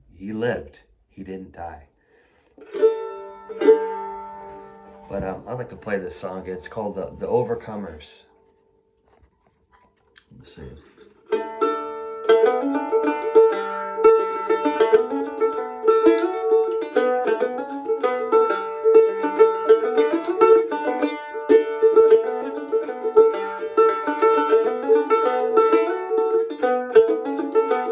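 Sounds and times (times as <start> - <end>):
plucked string instrument tune: 2.1 - 9.2, 10.5 - 27.9.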